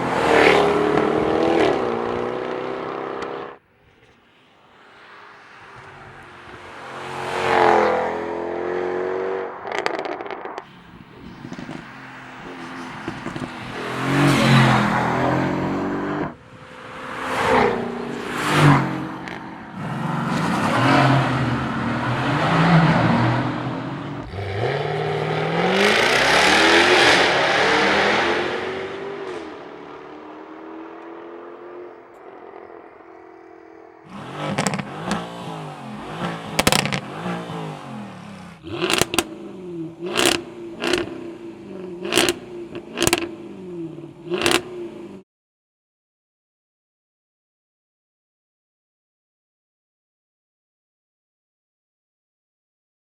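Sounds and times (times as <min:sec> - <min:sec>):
sports car engine revving: 0:00.0 - 0:03.6, 0:05.8 - 0:45.2.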